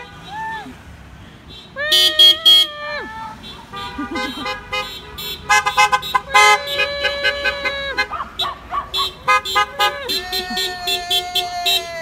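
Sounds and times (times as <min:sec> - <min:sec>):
car horns honking: 0:01.2 - 0:12.0.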